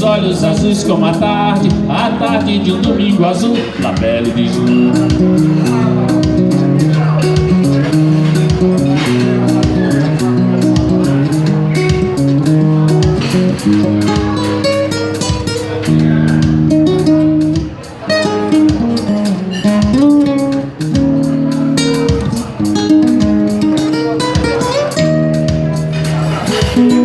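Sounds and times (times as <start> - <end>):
band with steady beat: 0.0 - 27.0
guitar playing chords: 0.0 - 27.0.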